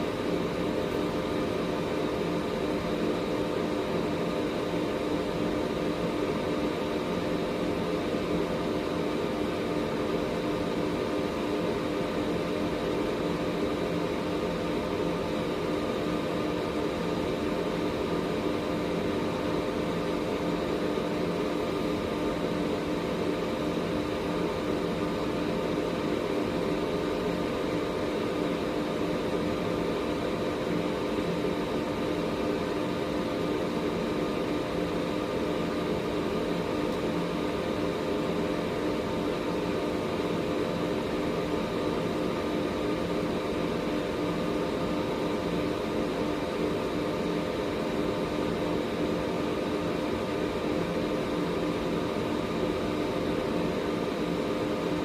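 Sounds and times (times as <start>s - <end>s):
air purifier fan running: 0.0s - 55.0s.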